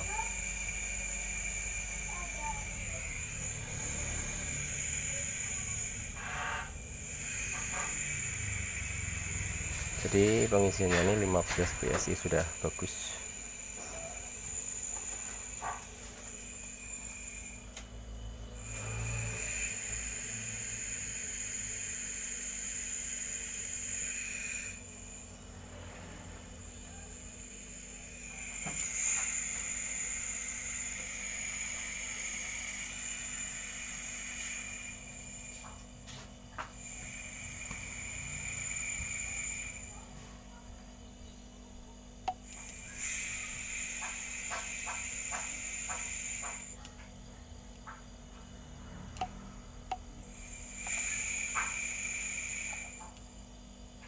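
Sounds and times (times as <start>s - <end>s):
gas hissing through a valve: 0.0s - 41.5s, 42.3s - 46.8s, 48.8s - 54.0s
compressor humming: 0.0s - 54.0s.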